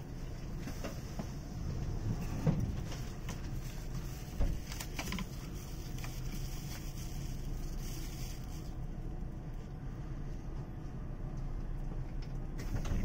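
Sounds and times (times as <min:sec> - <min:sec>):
train interior hum: 0:00.0 - 0:13.0.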